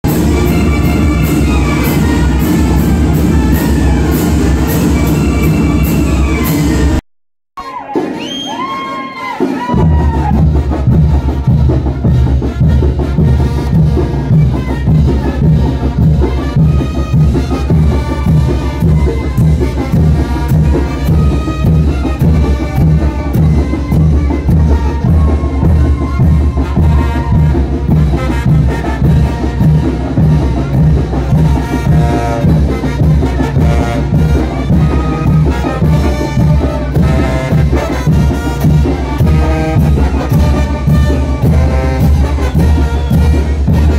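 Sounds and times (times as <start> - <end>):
brass band music with trumpets: 0.0 - 7.0, 7.6 - 43.9
steady drum beat: 0.0 - 7.0, 9.4 - 43.9.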